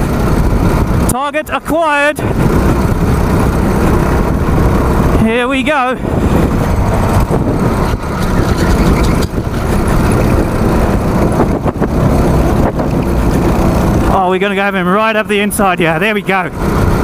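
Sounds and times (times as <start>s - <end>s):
go-kart engine running hard: 0.0s - 17.0s.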